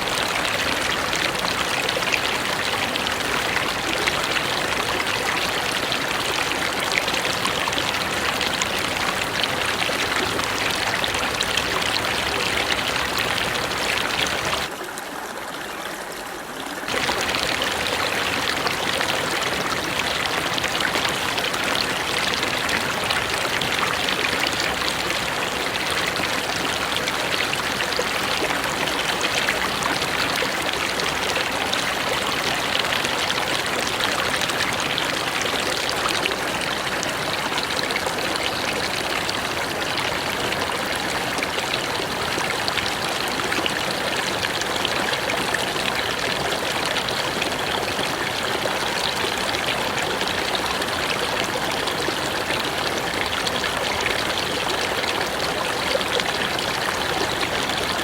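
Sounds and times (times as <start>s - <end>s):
river water rushing: 0.0s - 15.0s, 16.8s - 58.0s.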